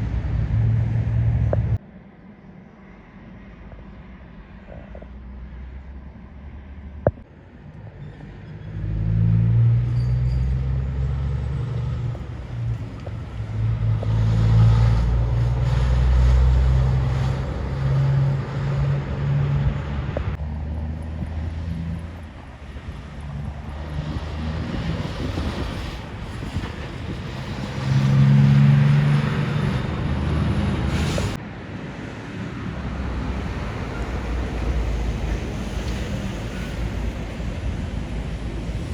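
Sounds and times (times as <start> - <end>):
truck diesel engine passing: 0.0 - 1.8, 8.2 - 38.9.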